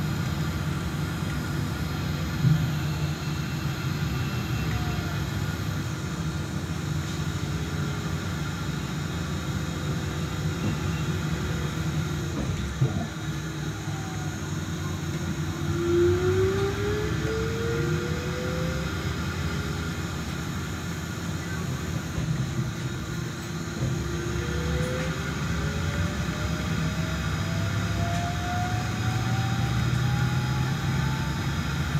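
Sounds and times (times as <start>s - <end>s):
trolleybus ride rumble: 0.0s - 31.9s.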